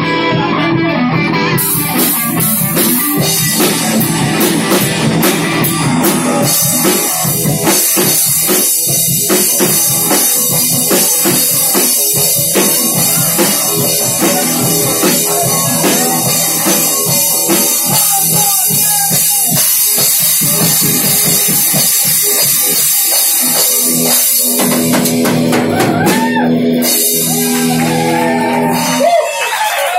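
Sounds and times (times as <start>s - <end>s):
drum kit beat: 0.0s - 29.9s
electric guitars: 0.0s - 29.9s.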